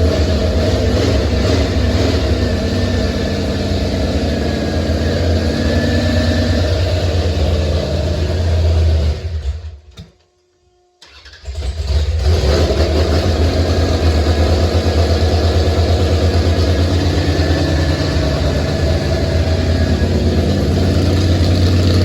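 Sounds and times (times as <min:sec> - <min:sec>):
car engine running: 0:00.0 - 0:09.1, 0:12.6 - 0:22.0
car engine starting: 0:00.0 - 0:09.8, 0:11.0 - 0:22.0.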